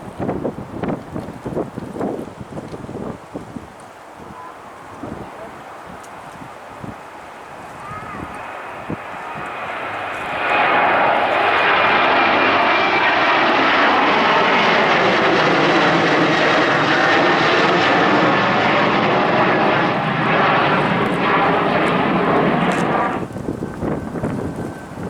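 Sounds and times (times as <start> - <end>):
airplane engines running: 0.0 - 25.0.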